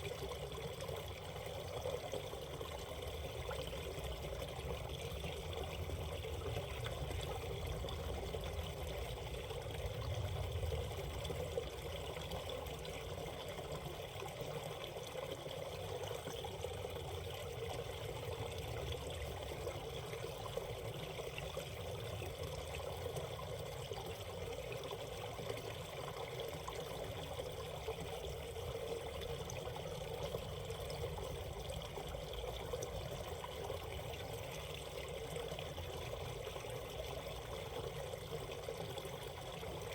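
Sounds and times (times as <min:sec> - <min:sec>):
stream water trickling over rocks: 0:00.0 - 0:39.9.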